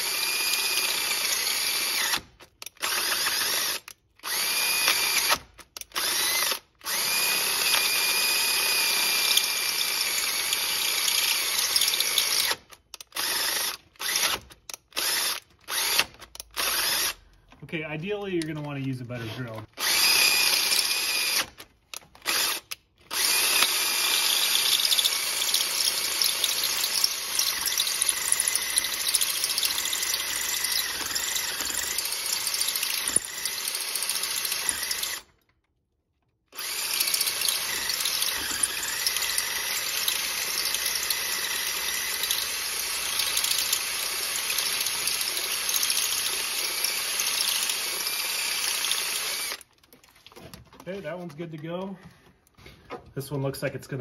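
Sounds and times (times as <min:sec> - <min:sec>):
power drill boring into metal: 0:00.0 - 0:17.2, 0:18.4 - 0:35.4, 0:36.5 - 0:49.7.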